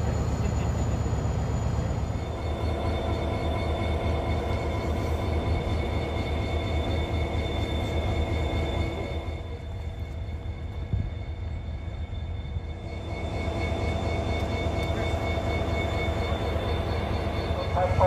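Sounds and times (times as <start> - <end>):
diesel locomotive engine drone: 0.0 - 18.0
steady whining tones: 0.0 - 18.0.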